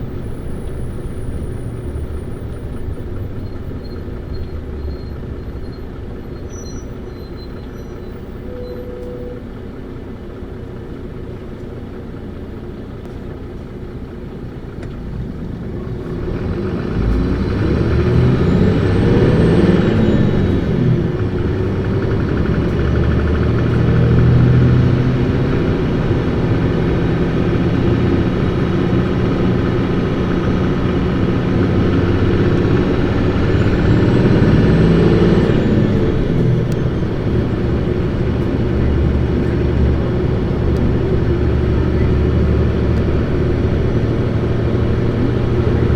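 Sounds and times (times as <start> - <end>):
bus diesel engine revving: 0.0 - 45.9.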